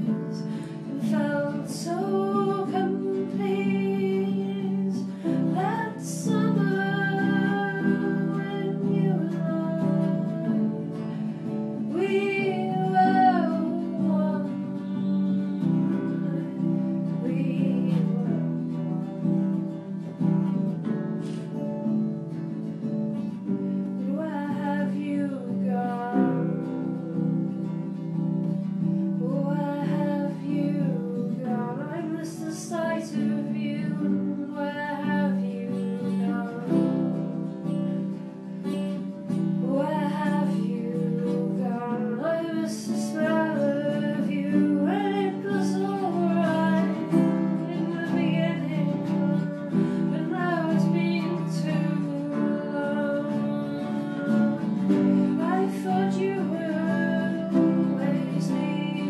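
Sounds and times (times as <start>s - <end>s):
person singing: 0.0s - 19.4s, 24.0s - 37.7s, 39.3s - 59.0s
acoustic guitar: 0.0s - 59.0s.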